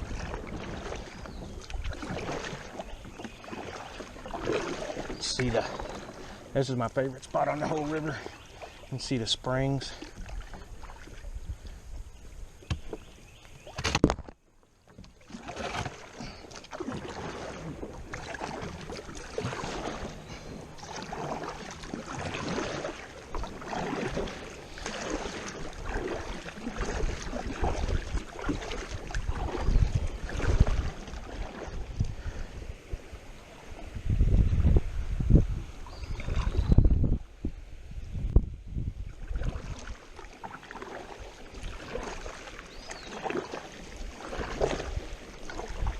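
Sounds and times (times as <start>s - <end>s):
water splashing around a kayak: 0.0s - 45.9s.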